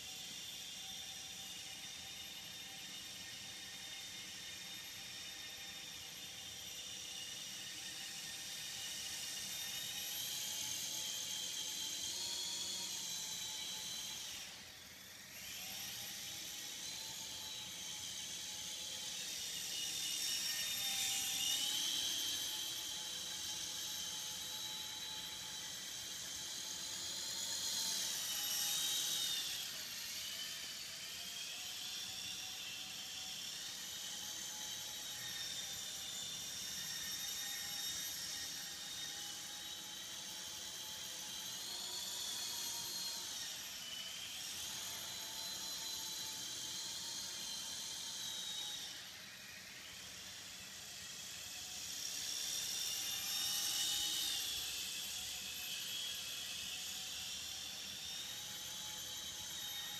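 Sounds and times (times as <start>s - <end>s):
model airplane motors whining: 0.0s - 59.9s.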